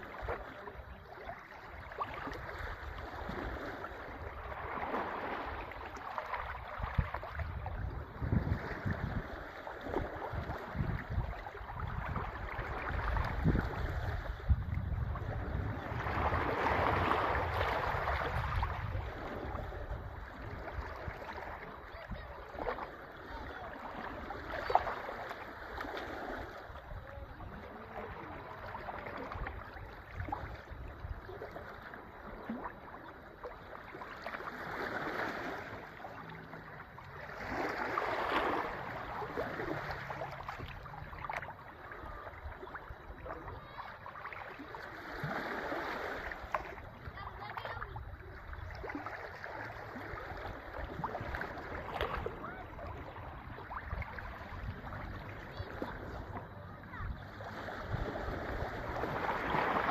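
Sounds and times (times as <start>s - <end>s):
sea waves washing in: 0.0s - 59.9s.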